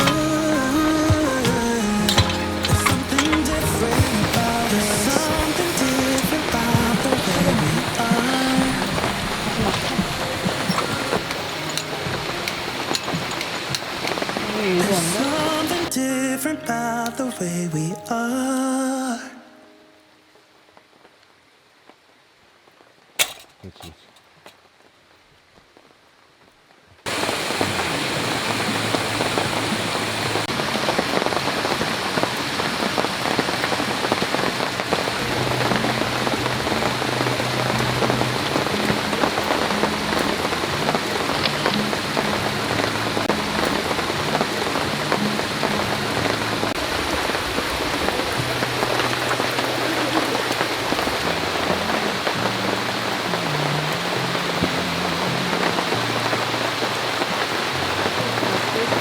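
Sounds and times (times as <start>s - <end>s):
heavy rain pouring: 0.0s - 26.4s, 27.0s - 59.0s.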